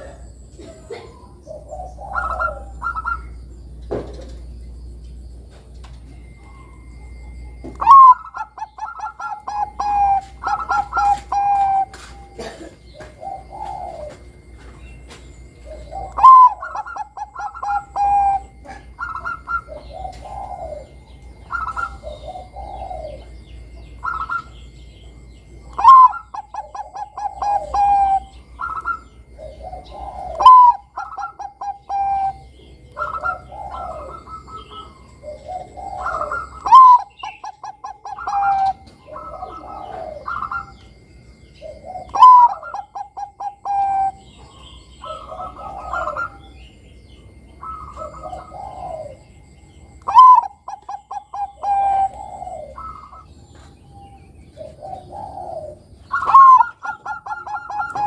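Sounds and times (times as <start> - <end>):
dove cooing song: 0.0 - 58.0
faint bird chirps: 0.0 - 58.0.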